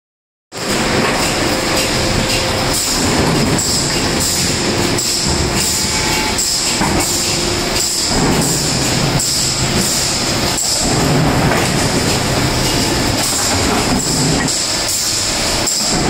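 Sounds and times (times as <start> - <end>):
machinery high whine: 0.6 - 16.0
production line machinery clatter: 0.6 - 16.0.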